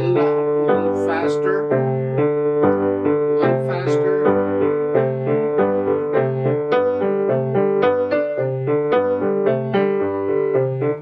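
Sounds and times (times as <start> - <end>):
grand piano repeated chords: 0.0 - 11.0.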